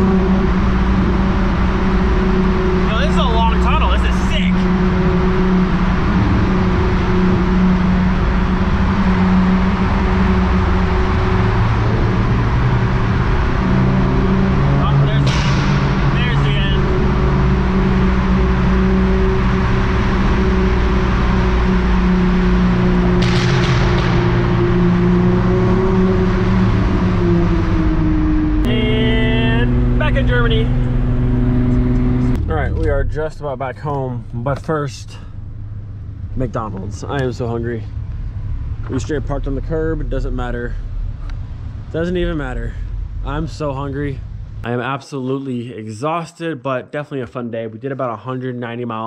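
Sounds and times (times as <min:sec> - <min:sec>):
tyre and road noise: 0:00.0 - 0:44.8
car engine drone: 0:00.0 - 0:45.6.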